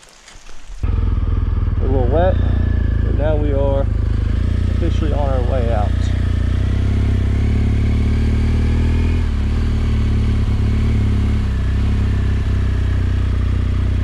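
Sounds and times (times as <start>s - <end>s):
motorcycle engine running: 0.7s - 14.0s.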